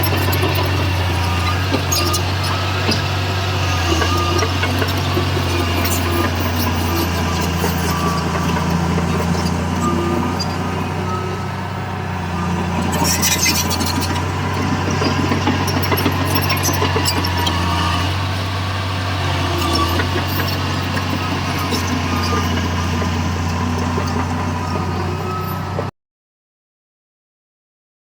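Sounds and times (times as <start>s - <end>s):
diesel engine humming: 0.0s - 25.9s.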